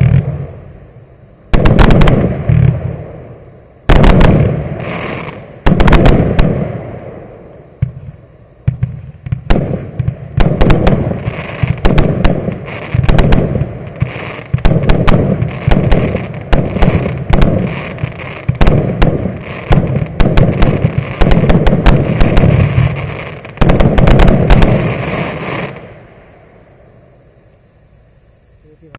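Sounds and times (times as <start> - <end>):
firework bangs and pops: 0.0 - 0.6, 1.5 - 26.0.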